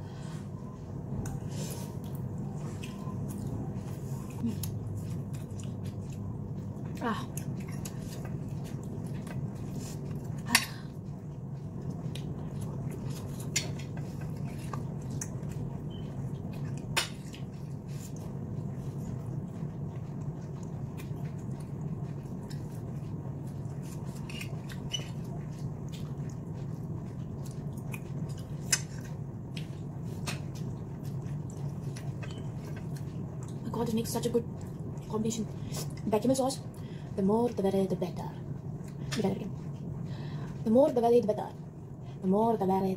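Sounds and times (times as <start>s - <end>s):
low hum: 0.0s - 42.9s.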